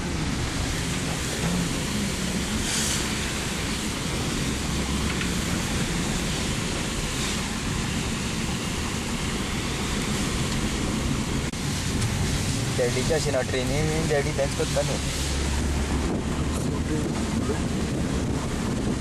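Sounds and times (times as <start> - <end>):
wind and road noise in car: 0.0 - 19.0.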